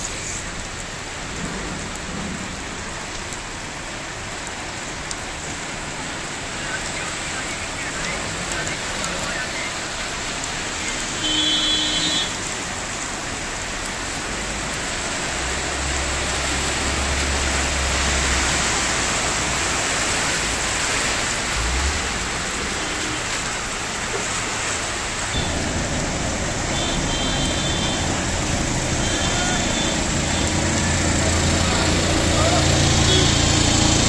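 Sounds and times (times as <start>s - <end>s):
heavy rain hiss: 0.0s - 34.0s
vehicles driving through water: 0.0s - 34.0s.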